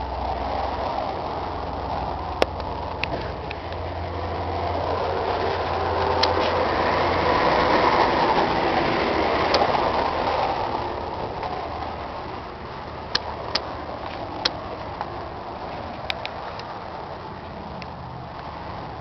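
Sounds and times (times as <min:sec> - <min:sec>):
tractor diesel engine hum: 0:00.0 - 0:19.0.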